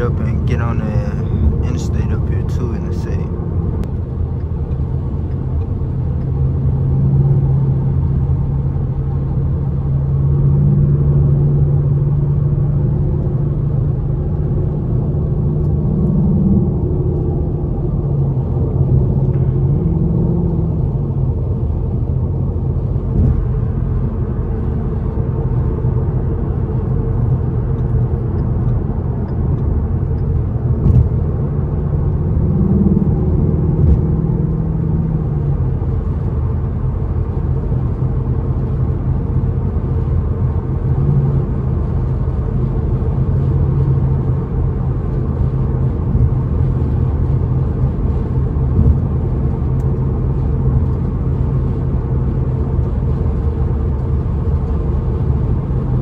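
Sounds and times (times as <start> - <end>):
car engine low rumble: 0.0 - 56.0
road noise: 0.0 - 56.0.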